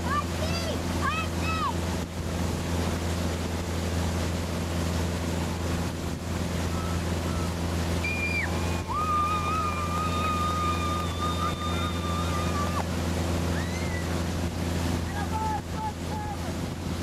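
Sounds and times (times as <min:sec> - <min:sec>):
boat wake rushing: 0:00.0 - 0:17.0
motorboat engine running: 0:00.0 - 0:17.0.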